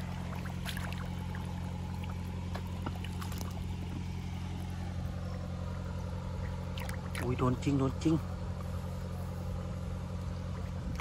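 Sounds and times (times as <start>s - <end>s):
steady low hum: 0.0s - 11.0s
wading through shallow water: 0.0s - 11.0s.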